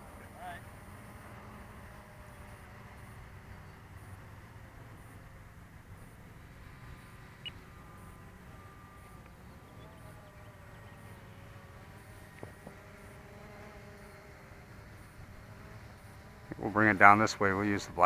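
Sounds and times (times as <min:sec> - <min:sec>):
model aircraft electric motor whine: 0:00.0 - 0:18.0.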